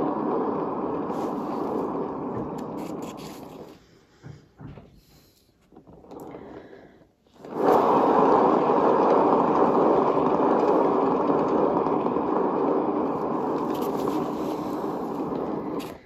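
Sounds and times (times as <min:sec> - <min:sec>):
turntable whirring: 0:00.0 - 0:03.8, 0:05.8 - 0:16.0.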